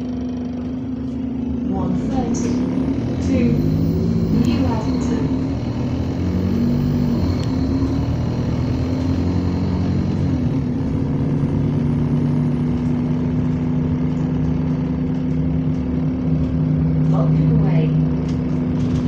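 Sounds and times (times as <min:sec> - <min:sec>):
bus engine humming: 0:00.0 - 0:19.0.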